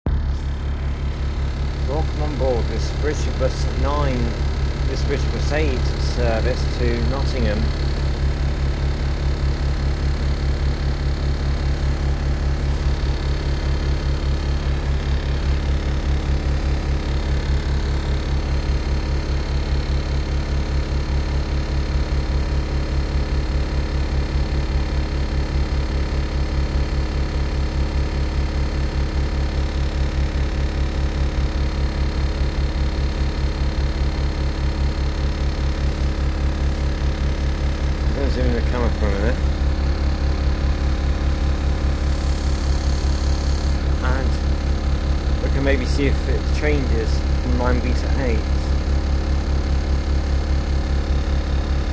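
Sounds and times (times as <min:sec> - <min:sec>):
bus diesel engine idling: 0:00.1 - 0:51.9.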